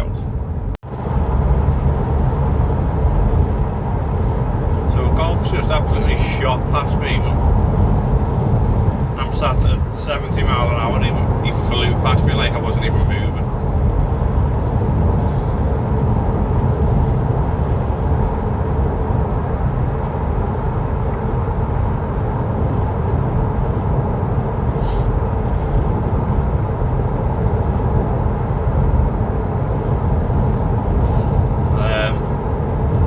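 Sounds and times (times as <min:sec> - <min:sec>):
road and engine noise in van: 0:00.0 - 0:33.0.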